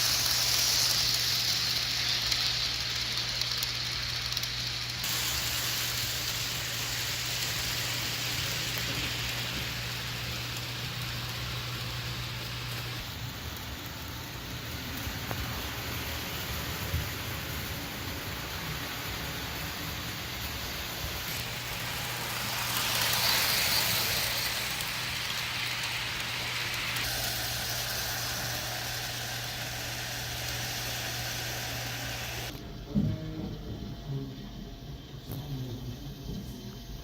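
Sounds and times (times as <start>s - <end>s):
model train running: 0.0s - 32.6s.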